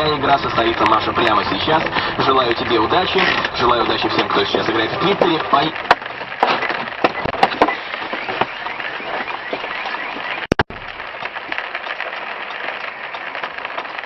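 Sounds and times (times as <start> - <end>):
steady noisy background: 0.0 - 14.0
sharp cracks and knocks: 2.6 - 14.0.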